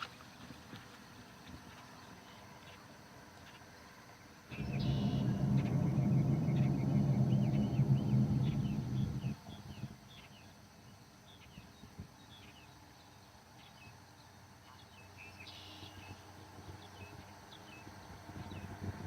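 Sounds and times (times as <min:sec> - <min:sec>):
birds chirping faintly: 0:00.0 - 0:18.8.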